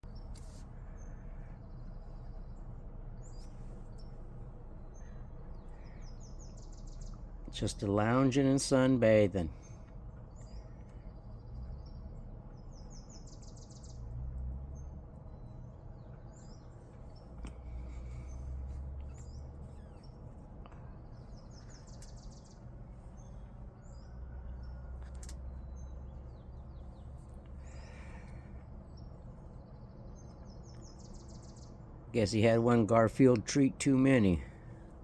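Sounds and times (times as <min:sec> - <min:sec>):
low outdoor rumble: 0:00.0 - 0:35.0
small birds chirping: 0:00.0 - 0:35.0.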